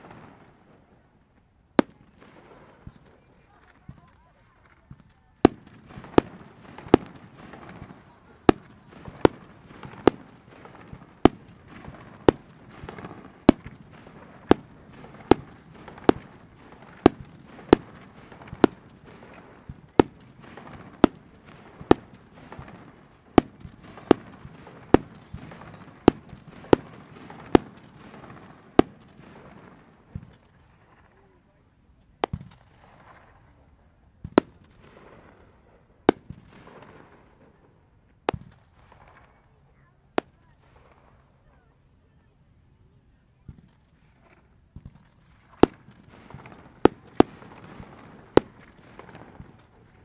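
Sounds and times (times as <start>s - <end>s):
faint continuous noise: 0.0s - 50.0s.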